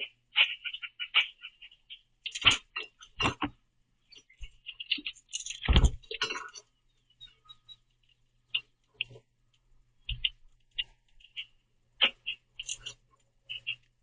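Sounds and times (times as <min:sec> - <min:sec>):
grackles clicking and chacking: 0:00.0 - 0:14.0.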